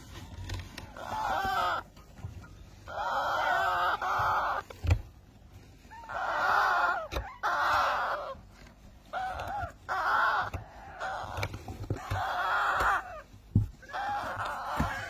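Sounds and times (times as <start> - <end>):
parakeet chicks calling harshly: 0.5 - 5.2, 5.9 - 15.0.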